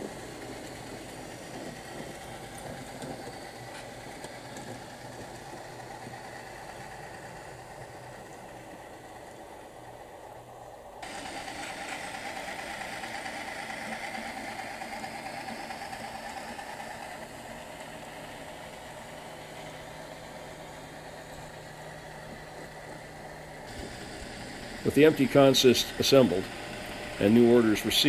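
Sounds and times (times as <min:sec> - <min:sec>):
model train diesel engine sound: 0:00.0 - 0:28.0.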